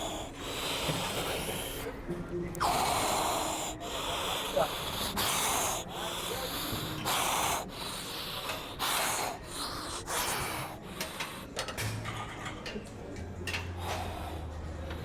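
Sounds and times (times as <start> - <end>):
person breathing hard: 0.0 - 2.0, 2.6 - 11.6, 13.8 - 15.0.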